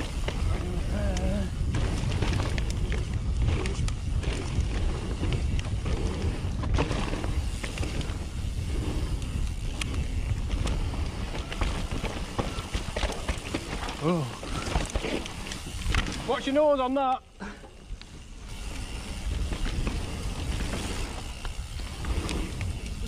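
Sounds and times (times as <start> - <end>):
wind buffeting microphone: 0.0 - 16.4, 18.1 - 23.0
tyre rumble on rough trail: 0.0 - 16.8, 17.6 - 23.0
bike rattles and knocks: 0.0 - 23.0.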